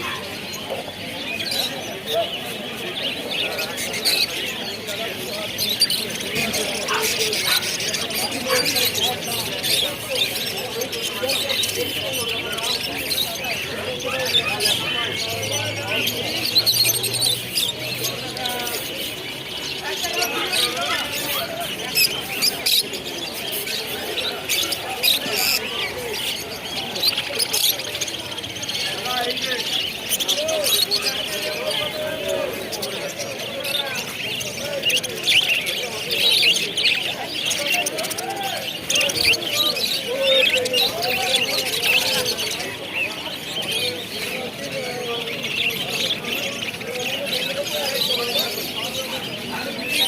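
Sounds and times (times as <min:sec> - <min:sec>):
caged birds squawking and chirping: 0:00.0 - 0:50.0
crowd chatter: 0:00.0 - 0:50.0
people's voices: 0:00.0 - 0:50.0.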